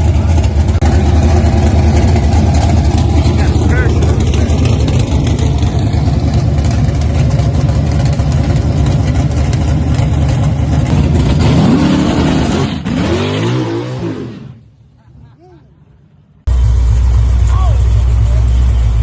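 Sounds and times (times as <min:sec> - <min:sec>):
car engine running and revving: 0:00.0 - 0:14.6, 0:16.5 - 0:19.0.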